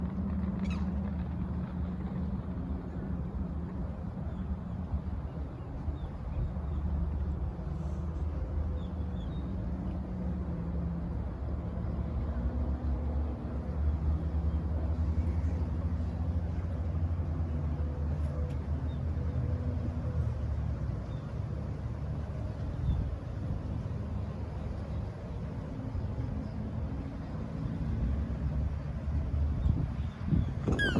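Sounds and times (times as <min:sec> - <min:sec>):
low mechanical drone: 0:00.0 - 0:30.9.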